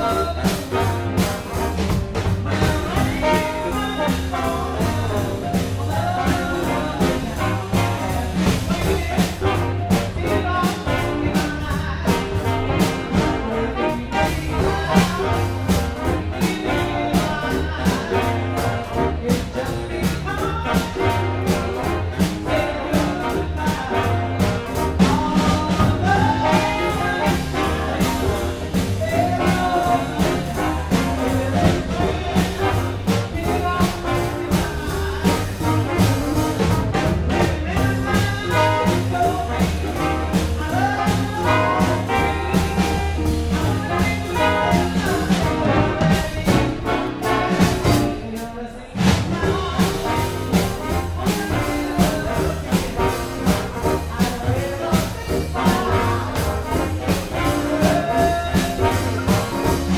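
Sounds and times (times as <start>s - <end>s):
drums: 0.0s - 59.9s
guitar: 0.0s - 59.9s
horn section: 0.0s - 59.9s
piano: 0.0s - 59.9s
upright bass: 0.0s - 59.9s.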